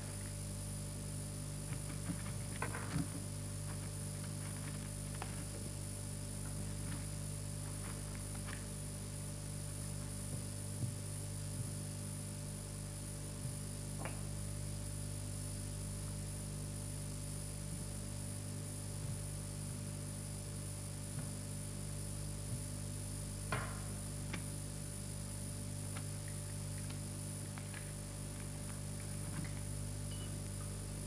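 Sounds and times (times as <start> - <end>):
mains hum with whine and hiss: 0.0 - 31.0.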